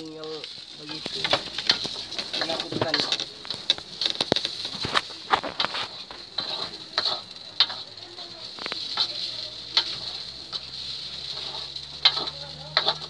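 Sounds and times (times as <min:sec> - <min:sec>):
rice sizzling in oil: 0:00.0 - 0:13.0
spatula scraping against wok: 0:00.7 - 0:13.0.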